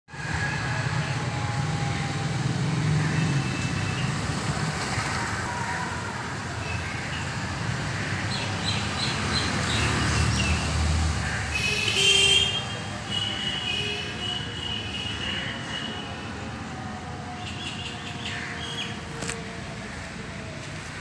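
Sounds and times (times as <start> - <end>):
road traffic with engine rumble: 0.1 - 21.0.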